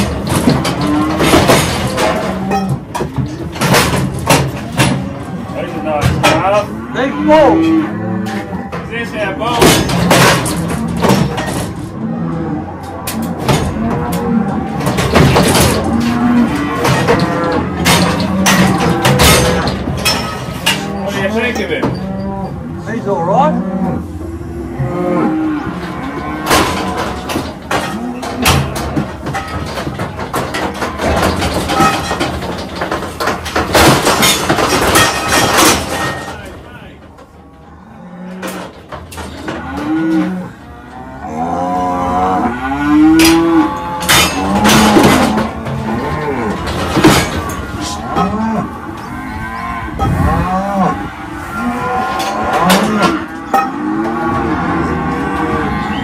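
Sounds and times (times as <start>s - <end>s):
cattle mooing: 0.0s - 35.7s, 37.4s - 56.0s
metal gates clanging and rattling: 0.0s - 56.0s.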